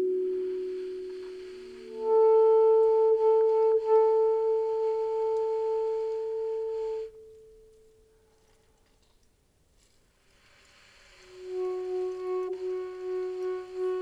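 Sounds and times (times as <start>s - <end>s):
saxophone long soft note: 0.0s - 8.9s, 11.2s - 14.0s.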